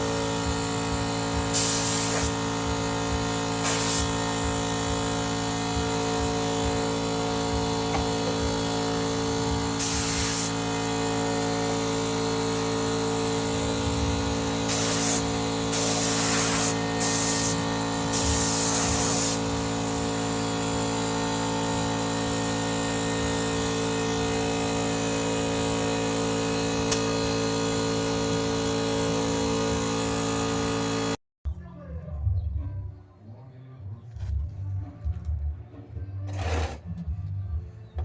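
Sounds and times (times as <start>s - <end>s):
compressed air hissing: 0.0s - 30.8s
air compressor humming: 0.0s - 31.2s.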